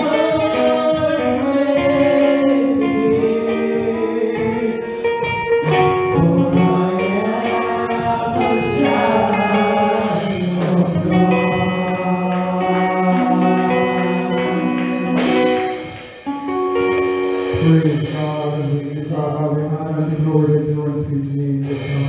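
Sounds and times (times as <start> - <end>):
man singing into a microphone: 0.0 - 15.8, 17.4 - 22.0
instrumental accompaniment: 0.0 - 22.0.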